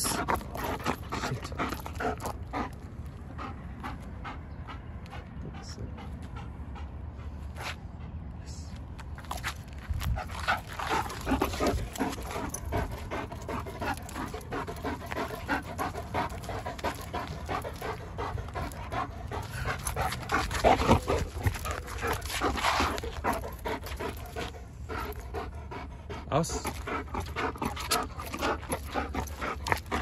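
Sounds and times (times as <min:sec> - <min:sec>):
dog panting: 0:00.0 - 0:08.3, 0:10.0 - 0:30.0.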